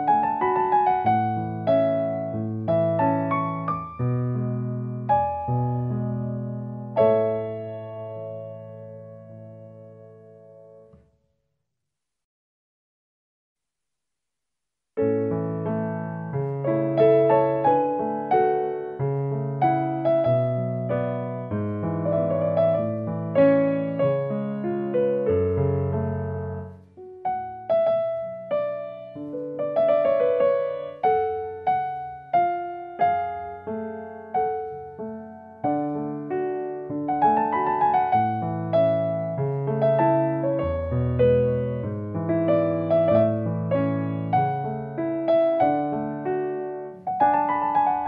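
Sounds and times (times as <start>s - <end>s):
gentle piano music: 0.0s - 11.1s, 15.0s - 48.0s.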